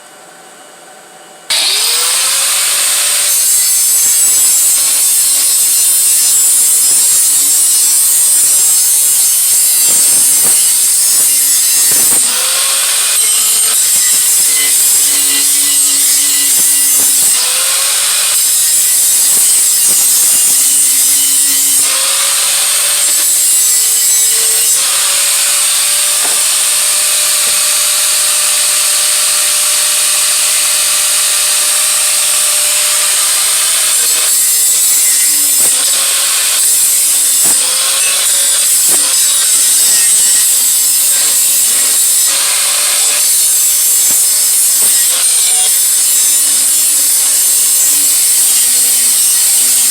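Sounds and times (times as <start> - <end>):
metal being abraded: 1.5 - 28.9, 30.0 - 49.9.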